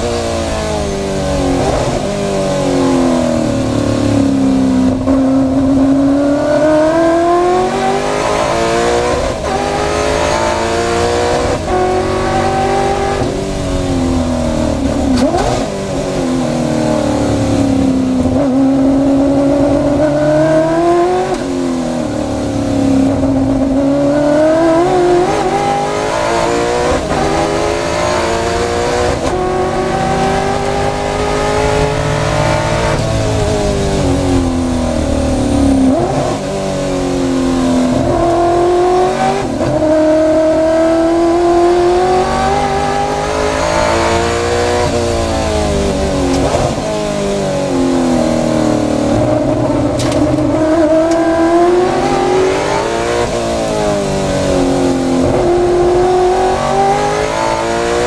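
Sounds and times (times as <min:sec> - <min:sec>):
racing car engine accelerating: 0:00.0 - 0:58.0.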